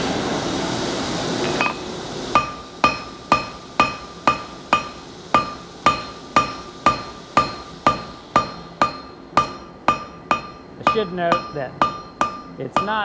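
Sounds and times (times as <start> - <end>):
hammer striking steel on anvil: 1.6 - 13.0.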